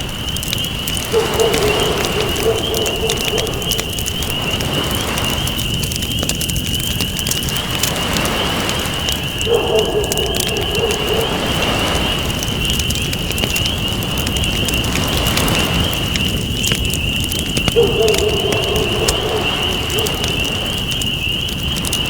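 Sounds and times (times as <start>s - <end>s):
campfire crackling: 0.0s - 22.0s
waves: 0.0s - 22.0s.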